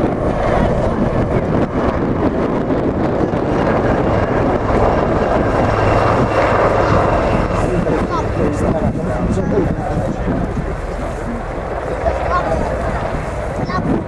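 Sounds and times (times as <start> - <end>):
aircraft noise: 0.0 - 14.0
wind buffeting microphone: 0.0 - 14.0.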